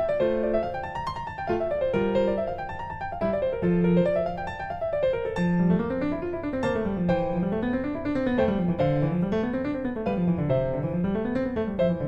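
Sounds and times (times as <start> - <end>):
piano arpeggios over bass notes: 0.0 - 12.0.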